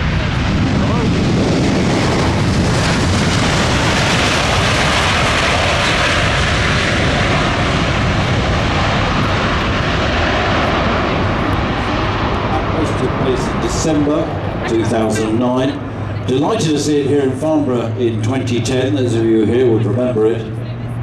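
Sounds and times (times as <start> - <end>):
turboprop aircraft flying past: 0.0 - 21.0.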